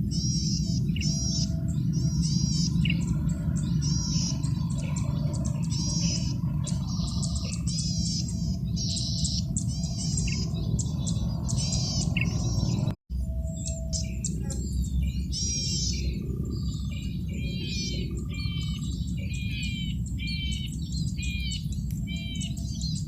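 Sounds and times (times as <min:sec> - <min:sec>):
bird singing buzzy phrases: 0:00.0 - 0:23.0
steady low rumble: 0:00.0 - 0:23.0.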